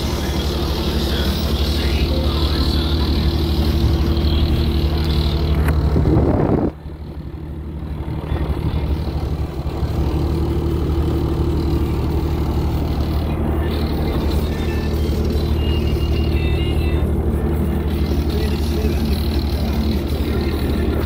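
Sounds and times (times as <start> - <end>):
diesel engine running at low revs: 0.0 - 21.0.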